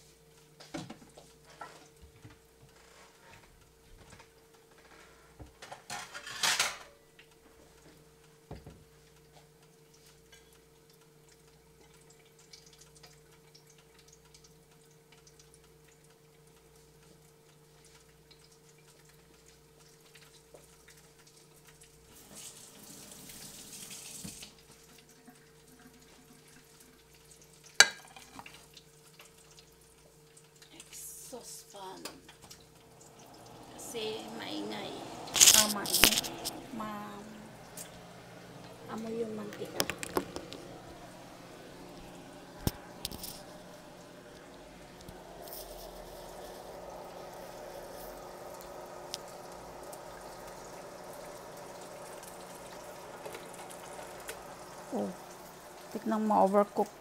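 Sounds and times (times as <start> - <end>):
deep fryer low hum: 0.0 - 57.0
oil sizzling in deep fryer: 0.0 - 57.0.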